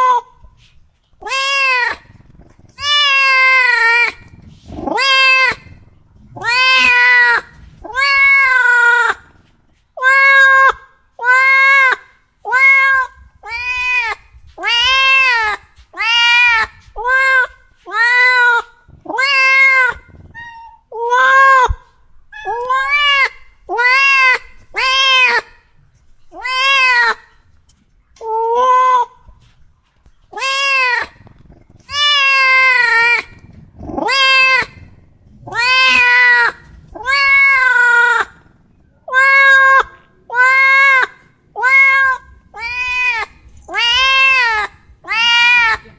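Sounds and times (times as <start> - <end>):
cat meowing: 1.2 - 25.5, 26.3 - 27.3, 28.2 - 29.2, 30.3 - 45.9.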